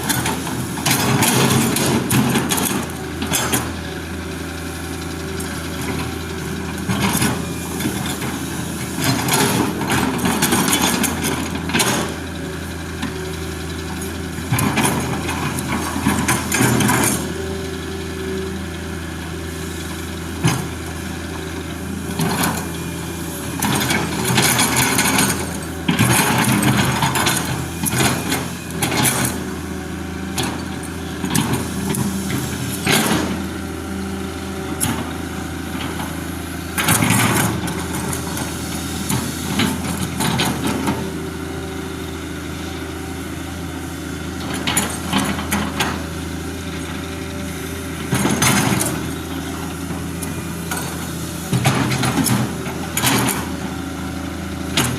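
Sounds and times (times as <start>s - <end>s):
small engine idling: 0.0s - 54.9s.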